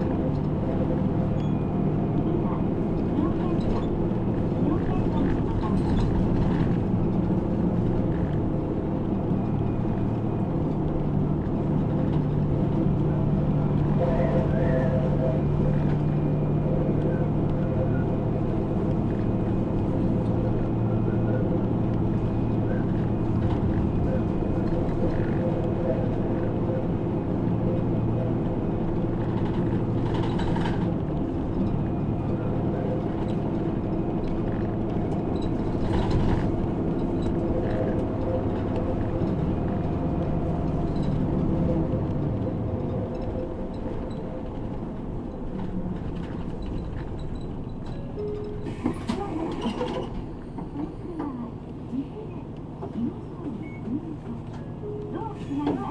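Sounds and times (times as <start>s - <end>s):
bus engine running: 0.0s - 55.9s
road noise: 0.0s - 55.9s.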